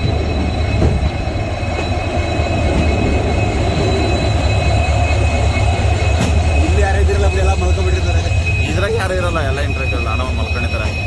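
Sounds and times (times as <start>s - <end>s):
train rumbling and rattling on rails: 0.0s - 11.0s.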